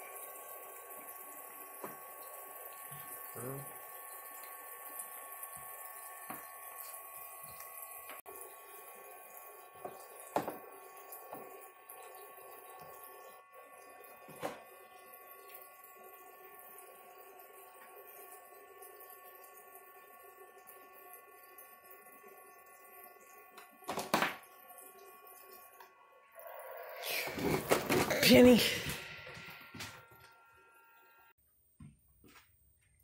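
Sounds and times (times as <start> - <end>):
faucet trickling water: 0.0 - 27.6
electric pump whining: 0.0 - 31.3.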